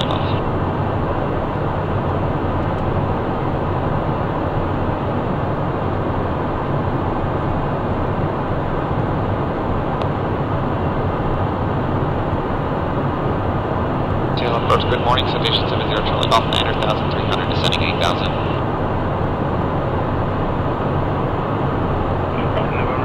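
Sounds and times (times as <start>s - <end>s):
airflow rushing over cabin: 0.0s - 23.0s
jet engines humming: 0.0s - 23.0s.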